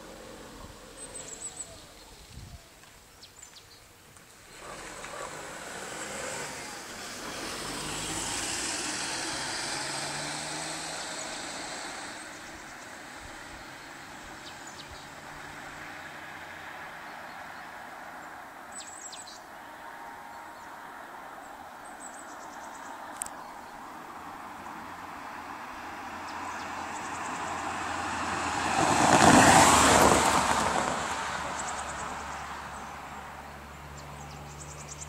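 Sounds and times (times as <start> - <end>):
car engine hum: 0.0 - 2.3, 4.4 - 18.8, 19.7 - 35.0.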